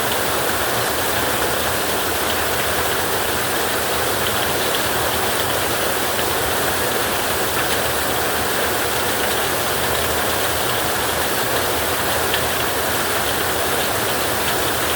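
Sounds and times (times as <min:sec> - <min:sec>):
heavy rain on a tin roof: 0:00.0 - 0:14.9.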